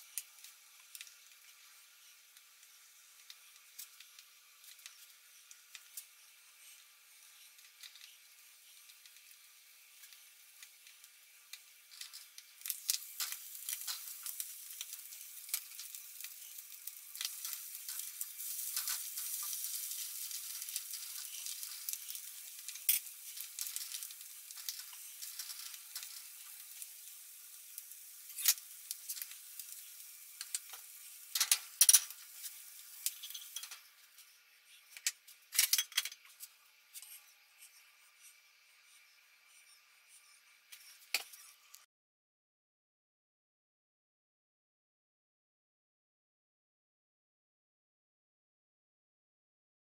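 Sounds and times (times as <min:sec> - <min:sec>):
omelette sizzling in a pan: 0:00.0 - 0:41.9.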